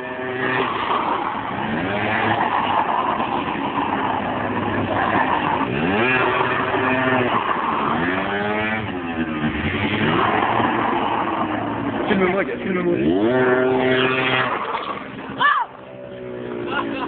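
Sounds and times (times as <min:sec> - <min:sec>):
scooter engines revving: 0:00.0 - 0:17.0
tyre spinning on asphalt: 0:00.0 - 0:17.0.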